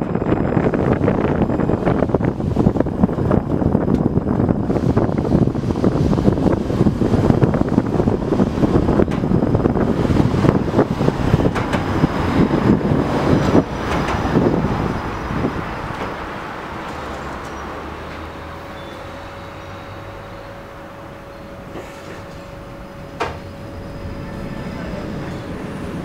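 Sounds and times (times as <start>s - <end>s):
tram wheels rumbling on track: 0.0s - 26.0s.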